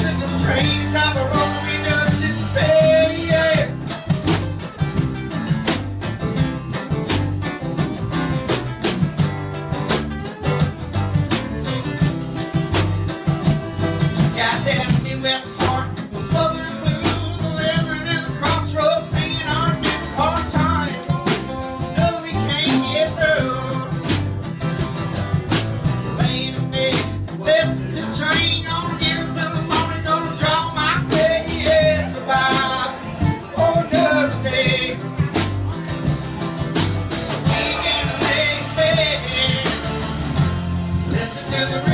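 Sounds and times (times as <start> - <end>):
drum kit beat: 0.0 - 41.9
electric bass: 0.0 - 41.9
strummed acoustic guitars: 0.0 - 41.9.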